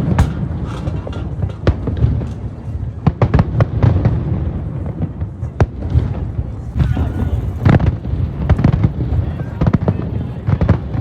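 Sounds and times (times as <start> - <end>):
fireworks cracking: 0.0 - 11.0
low rumble of fireworks bursts: 0.0 - 11.0.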